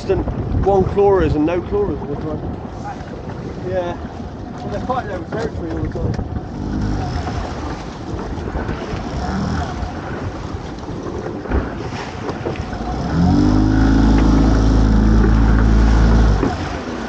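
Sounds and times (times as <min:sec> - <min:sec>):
boat engine: 0:00.0 - 0:17.0
water noise: 0:00.0 - 0:17.0
wind: 0:00.0 - 0:17.0.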